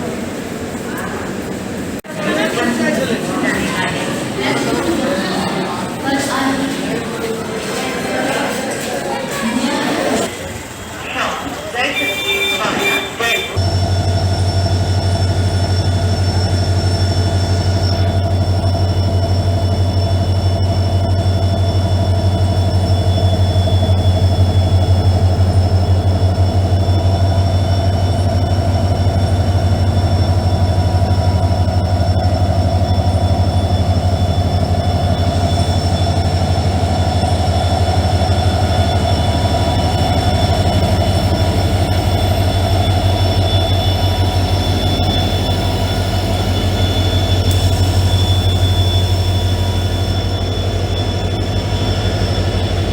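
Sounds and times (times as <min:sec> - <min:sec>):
thin high whines: 0:00.0 - 0:52.9
train rumbling and rattling: 0:00.0 - 0:52.9.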